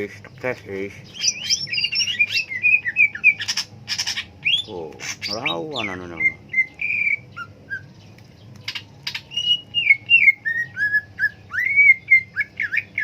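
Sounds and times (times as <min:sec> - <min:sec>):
bird singing whistled notes: 0:01.0 - 0:13.0.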